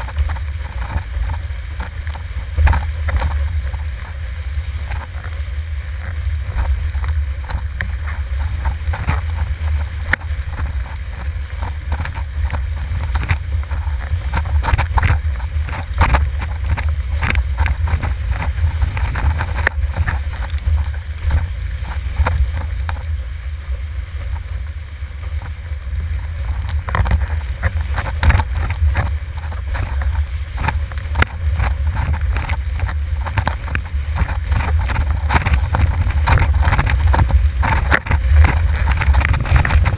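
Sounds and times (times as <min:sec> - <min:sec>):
water slaps and splashes: 0:00.0 - 0:39.9
wind buffeting microphone: 0:00.0 - 0:39.9.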